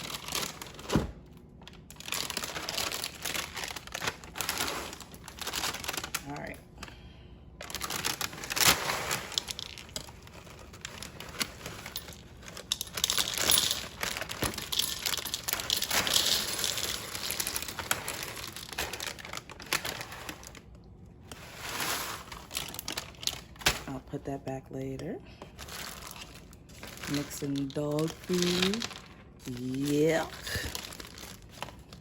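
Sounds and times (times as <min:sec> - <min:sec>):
plastic bag crinkling: 0:00.0 - 0:06.6, 0:07.6 - 0:24.3, 0:25.0 - 0:32.0.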